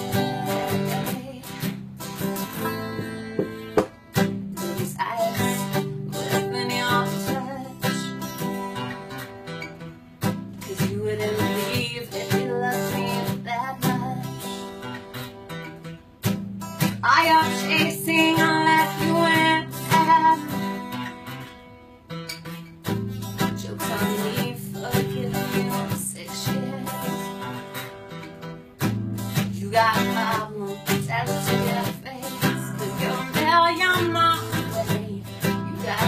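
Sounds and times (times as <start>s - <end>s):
woman singing: 0.0s - 8.9s, 10.6s - 15.0s, 16.8s - 21.2s, 23.3s - 28.0s, 29.2s - 36.0s
acoustic guitar strumming: 0.0s - 36.0s.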